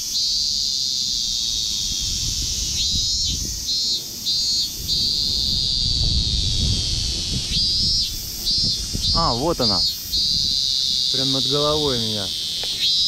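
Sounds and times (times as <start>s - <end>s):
cicada buzzing: 0.0s - 13.0s.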